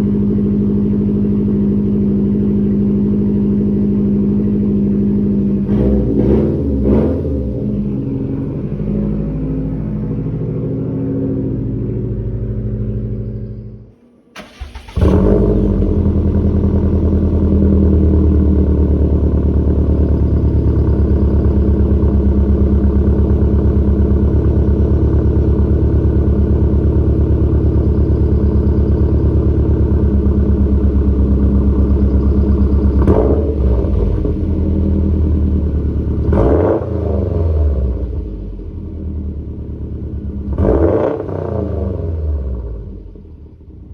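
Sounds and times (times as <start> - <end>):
car engine idling: 0.0 - 43.9
car engine restarting: 0.0 - 43.9.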